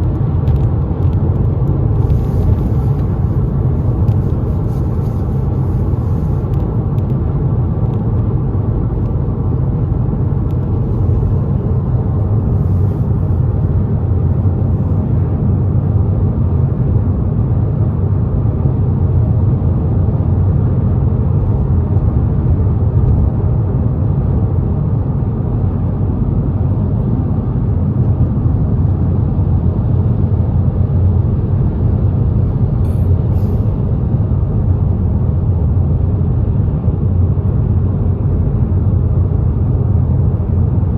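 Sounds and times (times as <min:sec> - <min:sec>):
car road rumble: 0:00.0 - 0:40.9.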